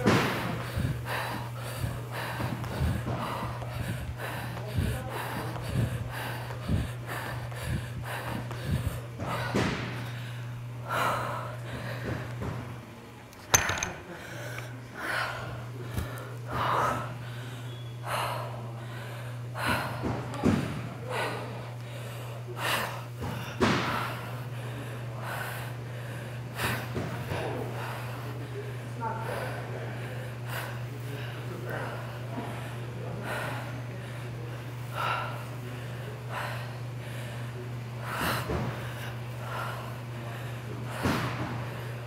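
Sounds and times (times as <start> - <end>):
woman breathing hard: 0.0 - 12.6, 13.5 - 42.0
steady low hum: 0.0 - 42.0.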